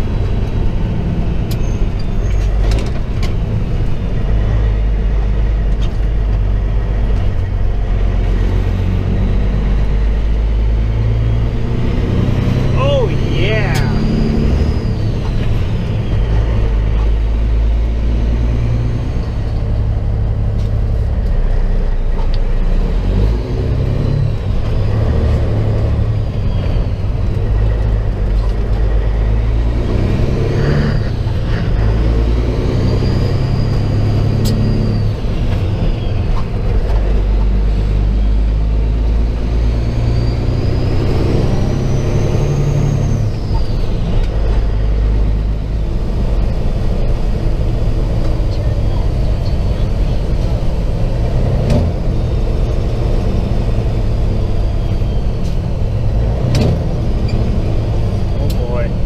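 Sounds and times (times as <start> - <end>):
diesel engine rumble: 0.0 - 59.0.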